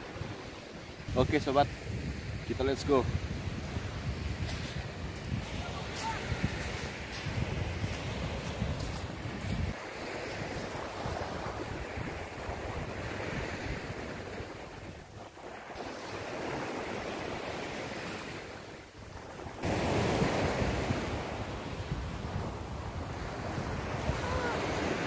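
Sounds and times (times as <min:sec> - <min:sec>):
surf washing onto beach: 0:00.0 - 0:25.0
wind buffeting microphone: 0:00.0 - 0:25.0.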